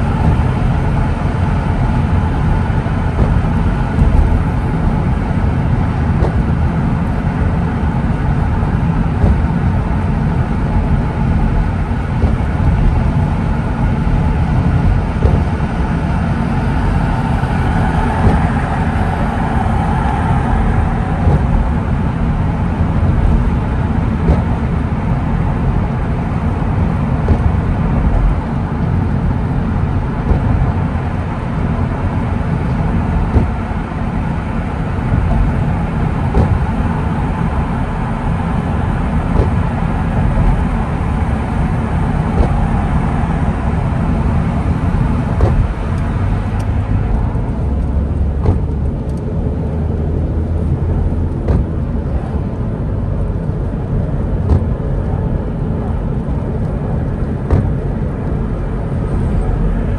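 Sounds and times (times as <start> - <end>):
car tyres on wet road: 0.0 - 59.9.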